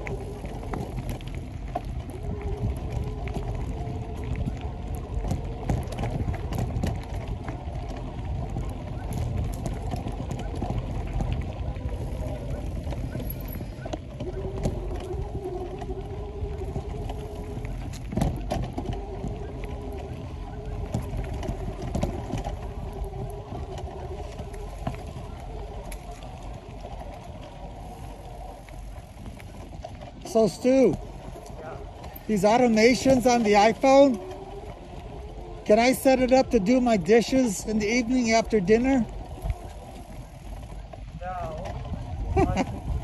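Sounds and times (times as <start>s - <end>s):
bike tyres crunching on leaves: 0.0s - 43.0s
steady low rumble: 0.0s - 43.0s
wind buffeting microphone: 0.0s - 43.0s.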